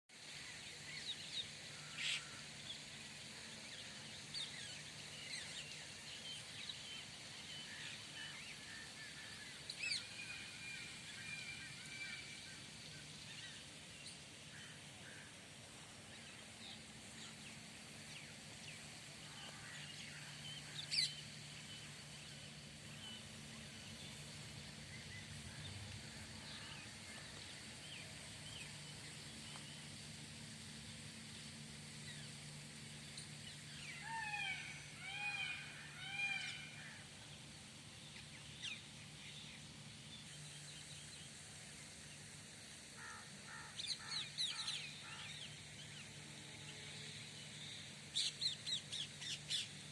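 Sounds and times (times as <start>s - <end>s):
faint low hum: 0.4s - 43.5s.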